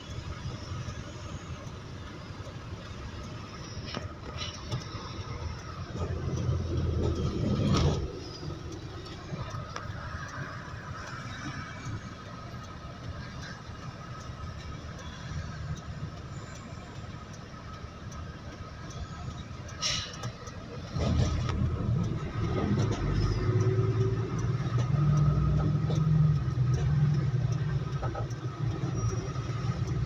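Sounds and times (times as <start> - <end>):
road rumble: 0.0 - 30.0.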